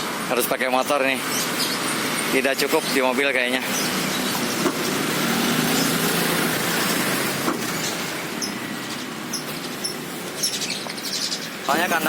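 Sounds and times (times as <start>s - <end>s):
road vehicle passing: 0.0s - 12.0s
high bird chirps: 1.2s - 7.0s, 7.6s - 12.0s.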